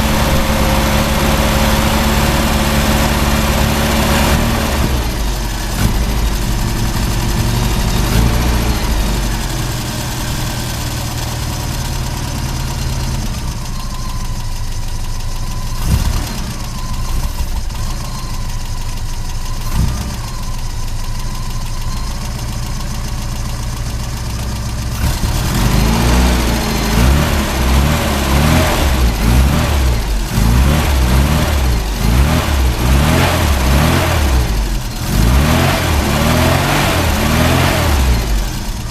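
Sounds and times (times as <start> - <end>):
car engine idling and revving: 0.0 - 38.9
engine knock: 0.0 - 38.9.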